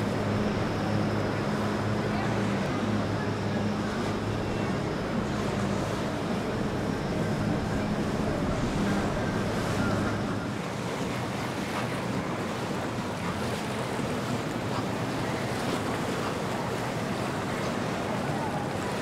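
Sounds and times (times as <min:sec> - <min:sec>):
outboard engines humming: 0:00.0 - 0:19.0
rush of boat wake: 0:00.0 - 0:19.0.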